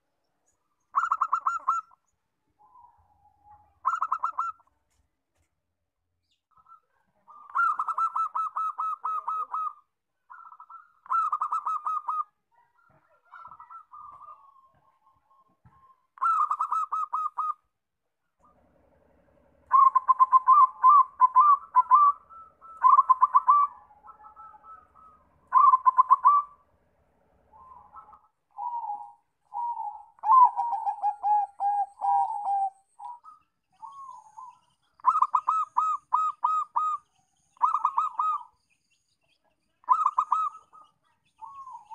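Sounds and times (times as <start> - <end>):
doves cooing: 0.9 - 2.0, 2.6 - 4.7, 6.5 - 17.7, 18.4 - 38.6, 39.8 - 41.9.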